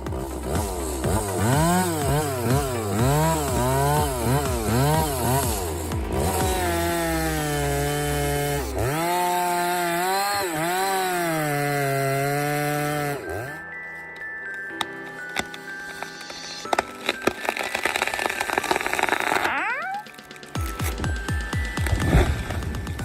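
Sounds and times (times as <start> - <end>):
two-stroke chainsaw revving: 0.0 - 13.6, 16.6 - 23.0.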